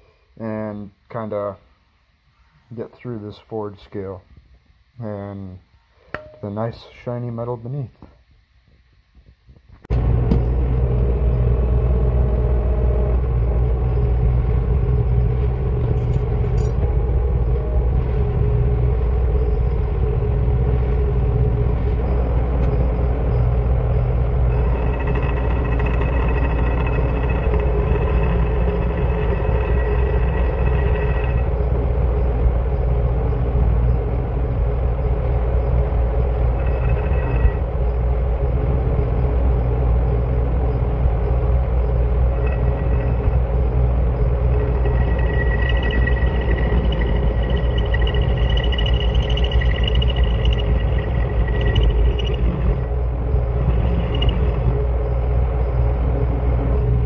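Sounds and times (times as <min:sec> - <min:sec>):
milling machine humming: 0:09.9 - 0:39.6, 0:40.6 - 0:57.0
high whine from cutting: 0:09.9 - 0:57.0.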